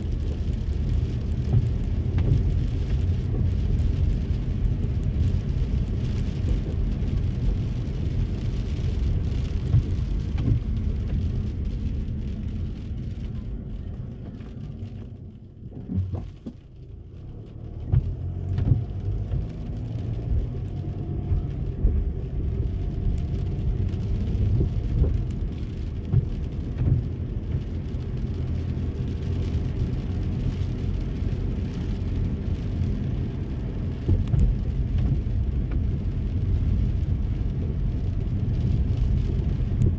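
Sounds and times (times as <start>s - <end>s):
rain spattering on car: 0.0s - 39.9s
road and engine rumble: 0.0s - 39.9s.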